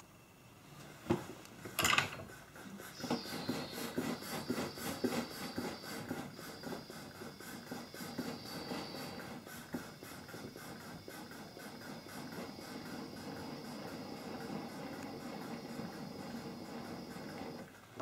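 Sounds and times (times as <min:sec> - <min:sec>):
gas torch hissing: 0:01.8 - 0:17.7.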